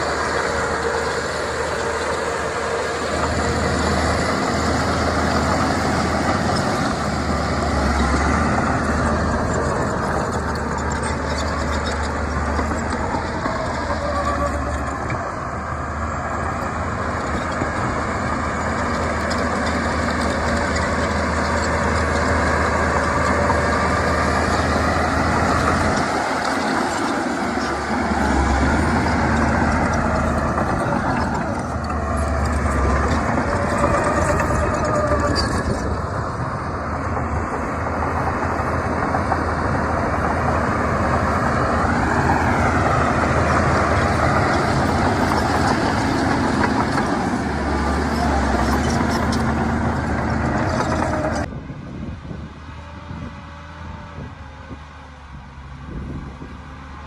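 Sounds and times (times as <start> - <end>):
engine whine: 0.0 - 57.0
heavy diesel engines rumbling: 0.0 - 57.0.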